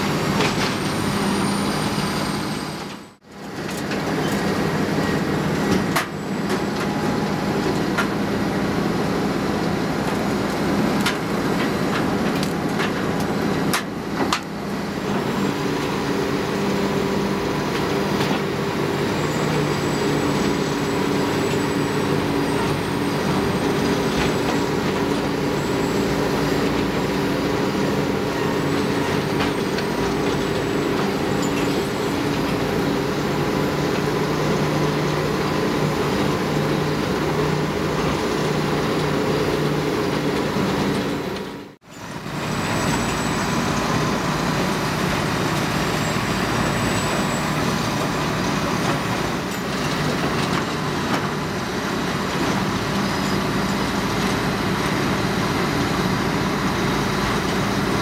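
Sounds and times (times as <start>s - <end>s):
excavator: 0.0s - 58.0s
shredder diesel engine droning: 0.0s - 58.0s.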